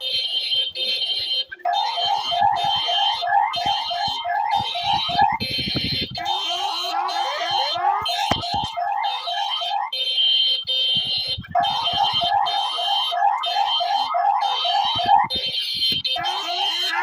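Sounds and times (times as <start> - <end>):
steady high alarm tone: 0.0 - 17.0.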